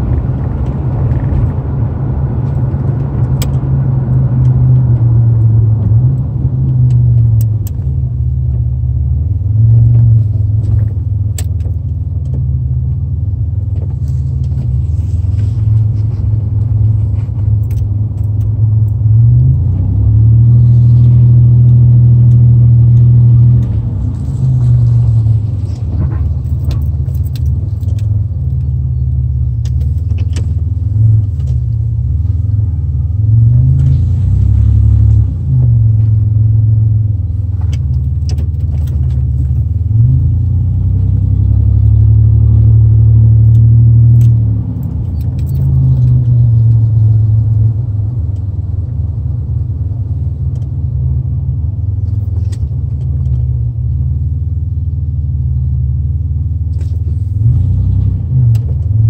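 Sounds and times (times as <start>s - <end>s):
car engine hum from inside cabin: 0.0s - 59.0s.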